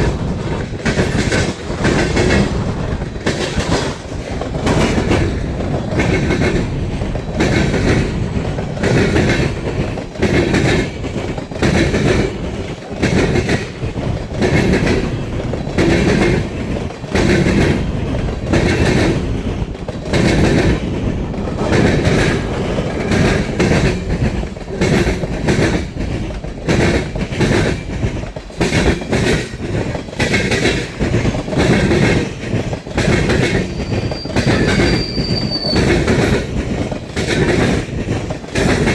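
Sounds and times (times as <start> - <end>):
freight train rumble: 0.0 - 38.9
train wheels clattering over rail joints: 0.0 - 38.9.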